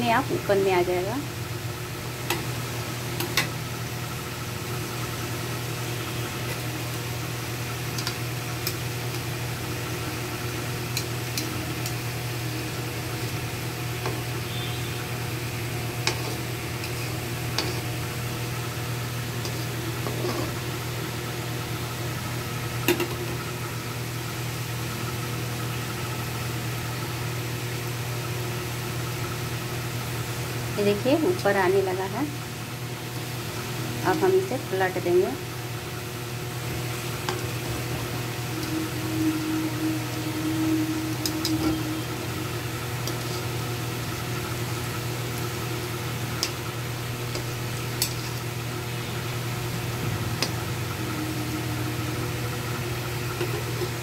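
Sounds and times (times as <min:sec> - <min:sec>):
low steady hum: 0:00.0 - 0:54.0
pastries sizzling in hot oil: 0:00.0 - 0:54.0.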